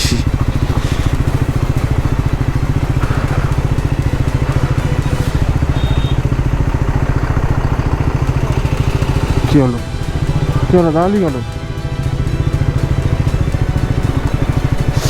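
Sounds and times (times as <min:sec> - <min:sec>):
motorcycle engine running low revs: 0:00.0 - 0:15.0.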